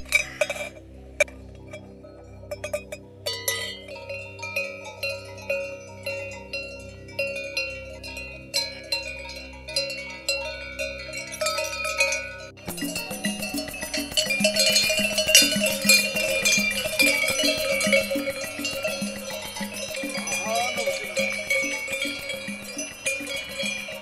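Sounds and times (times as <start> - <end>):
animal neck bells clanking: 0.0 - 24.0.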